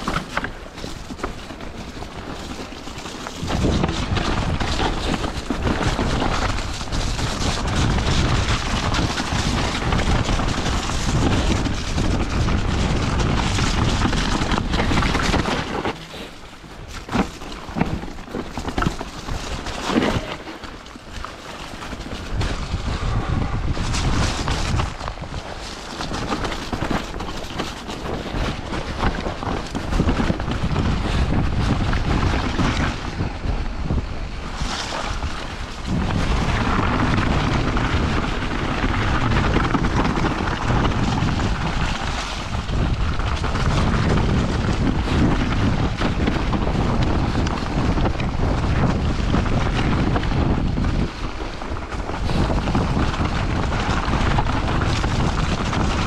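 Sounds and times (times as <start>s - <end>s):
bike tyres rumbling over snow: 0.0s - 56.0s
wind on microphone: 0.0s - 56.0s.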